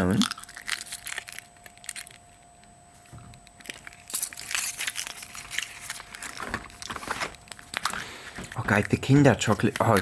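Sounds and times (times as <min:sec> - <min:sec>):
foil wrapper crinkling: 0:00.0 - 0:02.4, 0:03.0 - 0:10.0.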